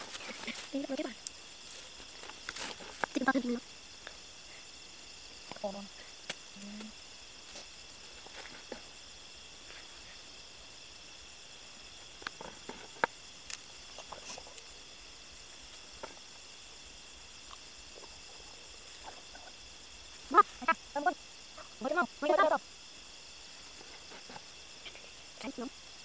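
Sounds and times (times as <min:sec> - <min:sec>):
night insects chorus: 0:00.0 - 0:26.0.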